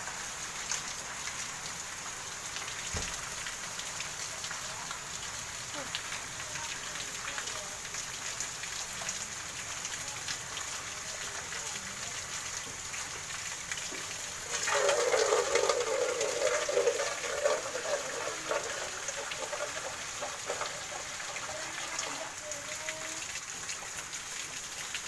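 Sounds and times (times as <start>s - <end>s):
rain hiss: 0.0s - 25.0s
water pouring in a gush: 0.0s - 25.0s.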